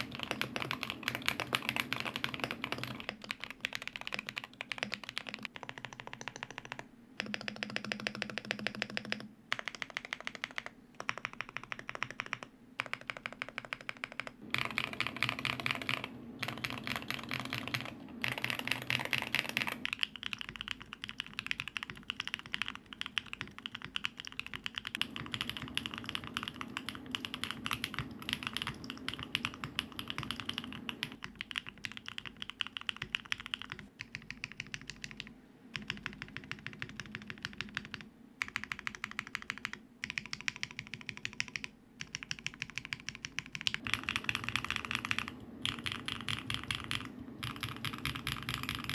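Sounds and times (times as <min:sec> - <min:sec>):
mechanical keyboard typing: 0:00.0 - 0:48.9.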